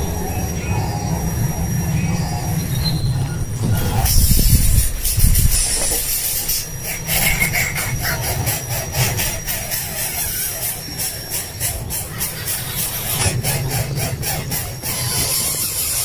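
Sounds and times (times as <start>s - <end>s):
young birds begging calls: 0.0s - 16.0s.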